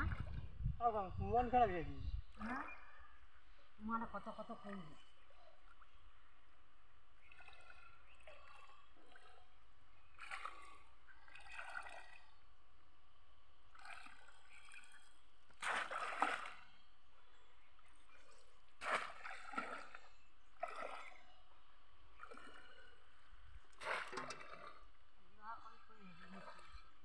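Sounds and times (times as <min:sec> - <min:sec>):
water sloshing and splashing: 0:00.0 - 0:00.8, 0:04.2 - 0:27.0.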